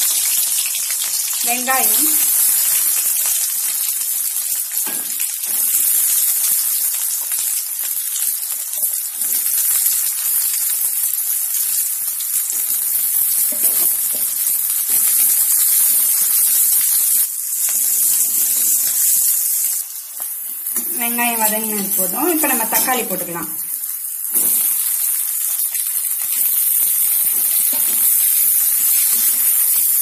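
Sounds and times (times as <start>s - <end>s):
frying hiss in a wok: 0.0s - 30.0s.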